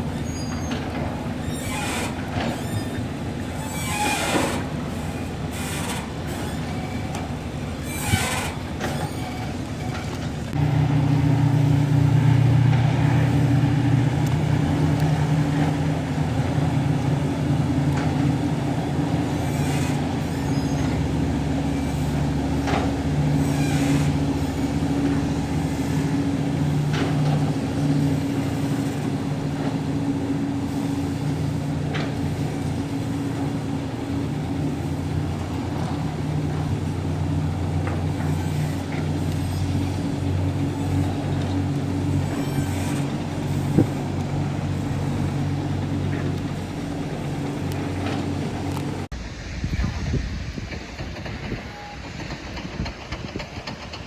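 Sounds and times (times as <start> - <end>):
ferry diesel engines droning: 0.0 - 49.6.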